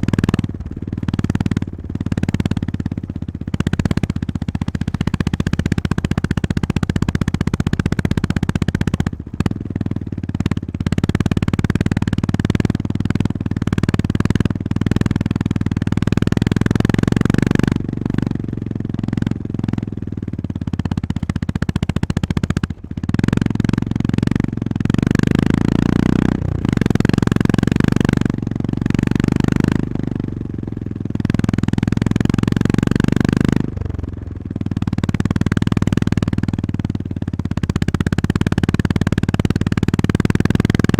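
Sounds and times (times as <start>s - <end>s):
single-cylinder motorcycle engine: 0.0s - 40.9s.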